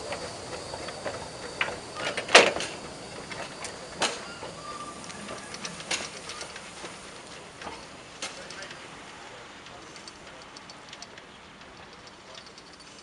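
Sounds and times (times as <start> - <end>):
steam locomotive rolling: 0.0 - 13.0.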